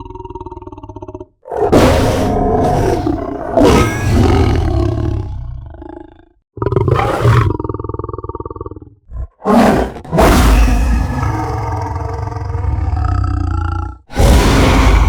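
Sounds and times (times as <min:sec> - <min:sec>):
lion growling: 0:00.0 - 0:15.0
lion roaring: 0:00.0 - 0:15.0.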